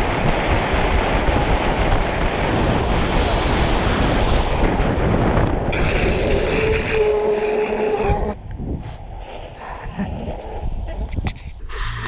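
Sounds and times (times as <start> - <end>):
wind noise: 0.0 - 12.0.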